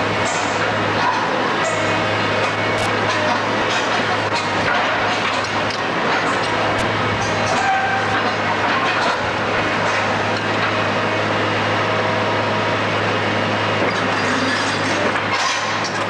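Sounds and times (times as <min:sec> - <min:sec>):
demolition machinery running: 0:00.0 - 0:16.0.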